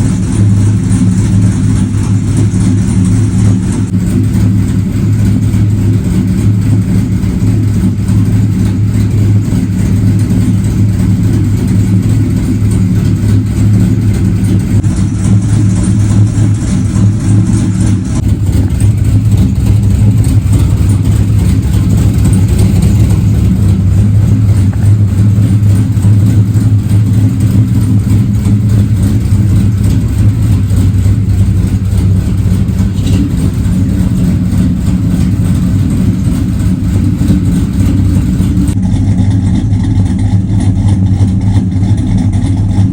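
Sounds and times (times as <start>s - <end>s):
vehicle engine droning: 0.0s - 42.9s.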